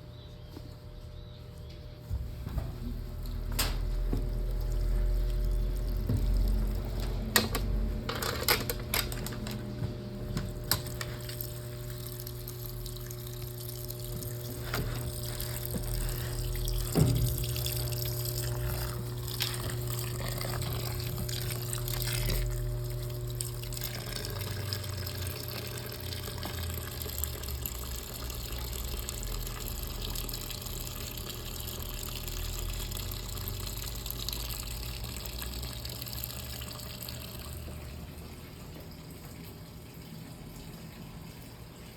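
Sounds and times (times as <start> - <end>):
washing machine motor hum: 0.0 - 41.9
water splashing in washing machine: 2.1 - 41.9.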